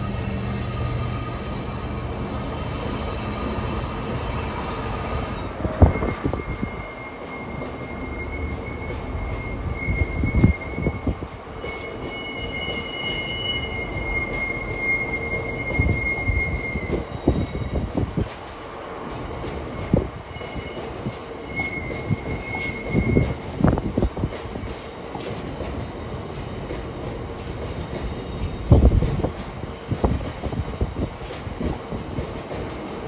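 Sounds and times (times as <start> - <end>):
train wheels squealing: 0.0 - 33.0.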